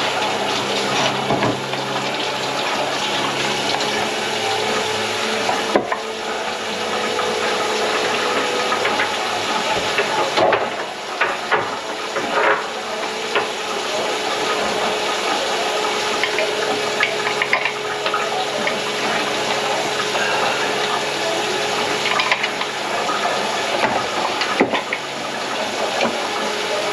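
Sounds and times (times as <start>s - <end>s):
water running through sink drain: 0.0s - 26.9s.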